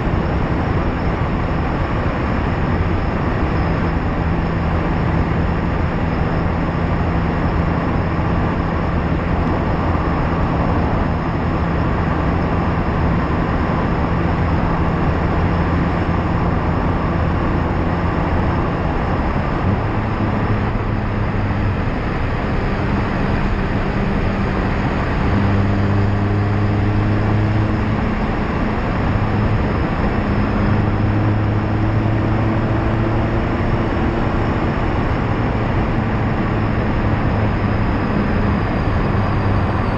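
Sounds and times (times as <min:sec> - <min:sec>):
car engine and exhaust: 0:00.0 - 0:39.9
tyre roar on road: 0:00.0 - 0:39.9.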